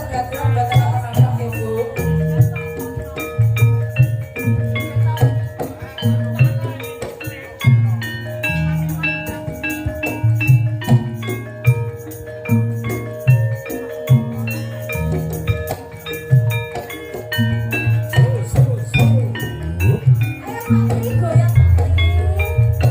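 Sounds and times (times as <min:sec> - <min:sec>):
ringing struck notes melody: 0:00.0 - 0:22.9.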